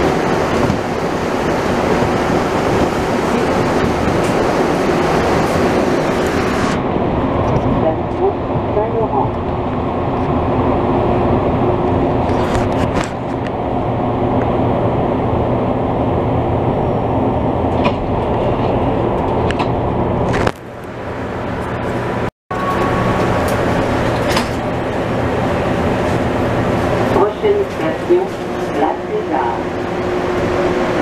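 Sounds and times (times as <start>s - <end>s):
metro car rumble and hum: 0.0s - 31.0s.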